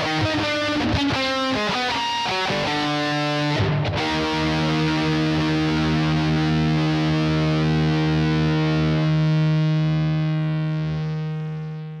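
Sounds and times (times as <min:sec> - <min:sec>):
distorted electric guitar ringing: 0:00.0 - 0:12.0.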